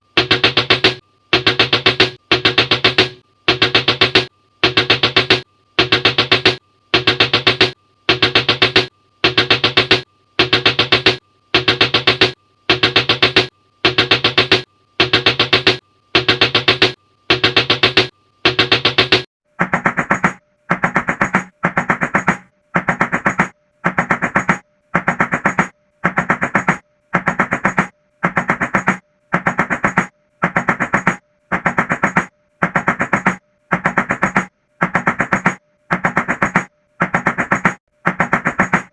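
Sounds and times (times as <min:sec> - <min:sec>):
rapid door knocking: 0:00.2 - 0:38.9.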